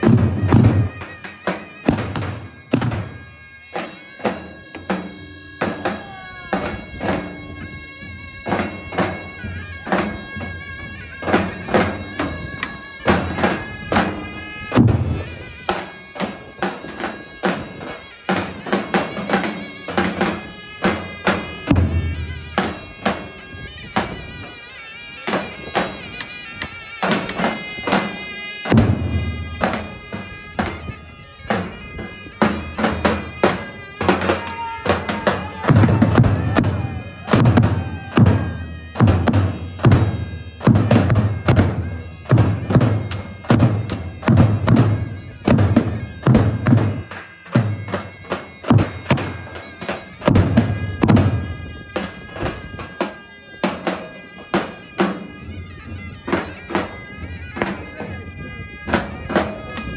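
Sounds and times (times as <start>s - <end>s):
shawm melody: 0.0s - 59.9s.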